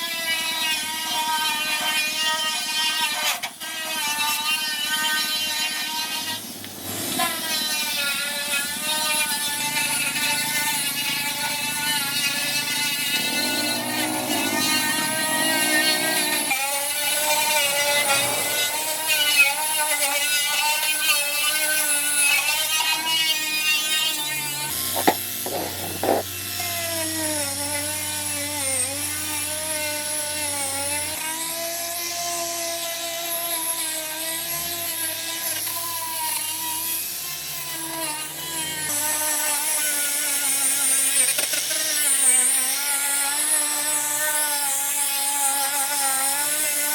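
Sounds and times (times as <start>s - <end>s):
power tool motor running: 0.0s - 46.9s.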